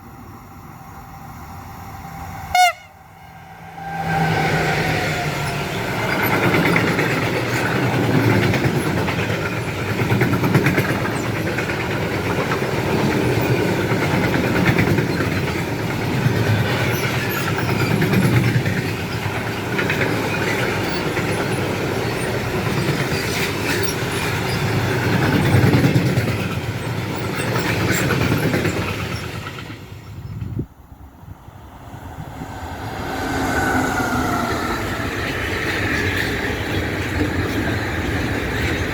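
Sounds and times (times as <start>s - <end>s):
train wheels rumbling over rails: 0.0s - 38.9s.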